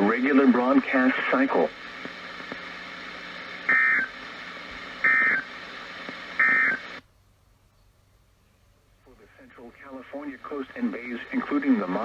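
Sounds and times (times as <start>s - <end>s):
steady radio hiss: 0.0s - 12.0s.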